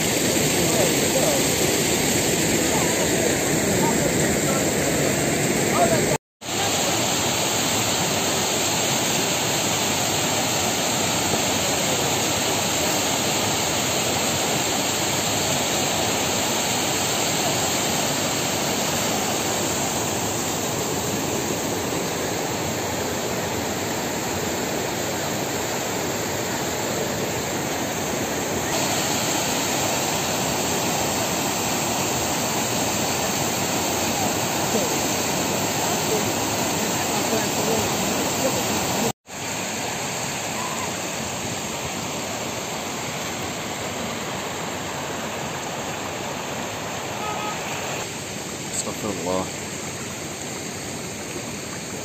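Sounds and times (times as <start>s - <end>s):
rushing stream water: 0.0s - 52.0s.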